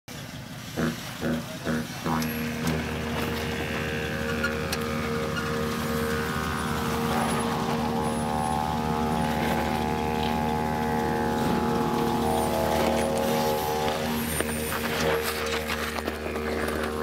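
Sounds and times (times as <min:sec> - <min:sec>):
didgeridoo drone: 0:00.5 - 0:17.0.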